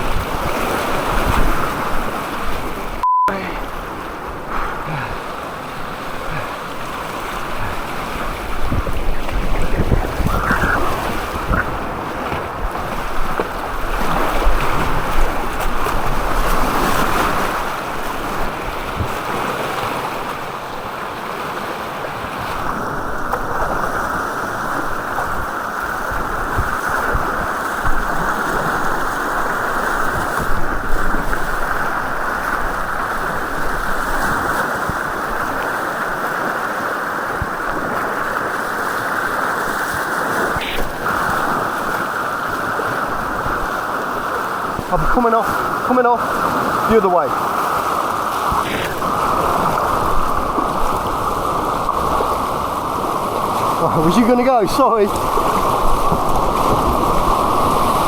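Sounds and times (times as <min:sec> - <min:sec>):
rushing white water: 0:00.0 - 0:58.0
wind buffeting microphone: 0:05.7 - 0:21.0, 0:22.2 - 0:53.8, 0:55.1 - 0:58.0.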